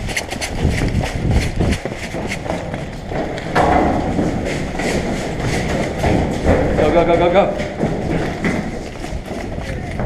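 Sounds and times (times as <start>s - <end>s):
hurried footsteps: 0.0s - 10.0s
steady rushing noise: 0.0s - 10.0s.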